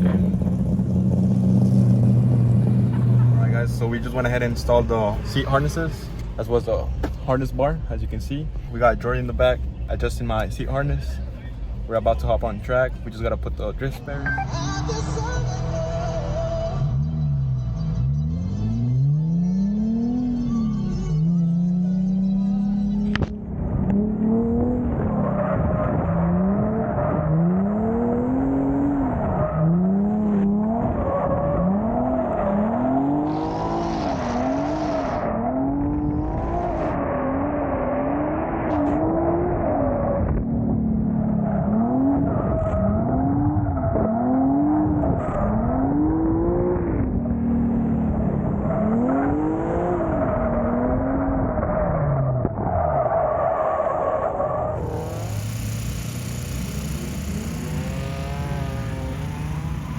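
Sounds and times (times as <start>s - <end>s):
car engine revving: 0.0s - 7.7s, 11.8s - 59.9s.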